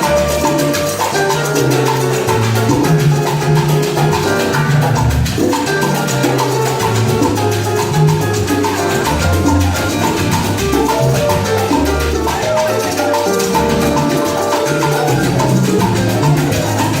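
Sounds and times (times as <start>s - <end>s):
bass line: 0.0s - 17.0s
salsa band playing: 0.0s - 17.0s
steady percussion: 0.0s - 17.0s.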